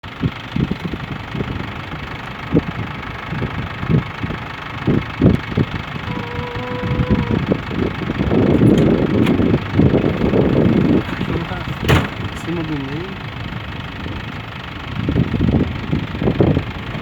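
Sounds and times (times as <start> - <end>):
gusty wind buffeting microphone: 0.2 - 17.0.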